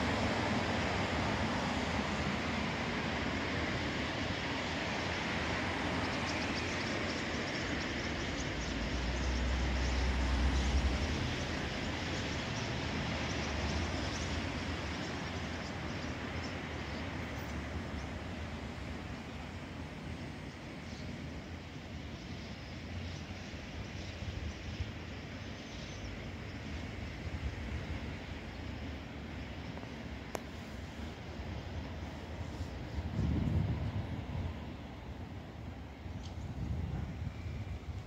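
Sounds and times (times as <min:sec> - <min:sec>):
traffic noise: 0:00.0 - 0:38.0.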